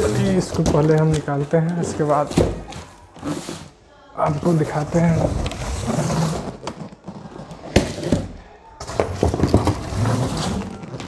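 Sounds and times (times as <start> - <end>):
cardboard packing rustling: 0.0 - 11.0.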